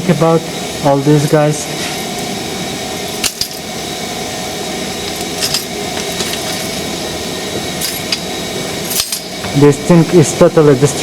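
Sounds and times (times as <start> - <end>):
workshop machinery running: 0.0 - 11.0.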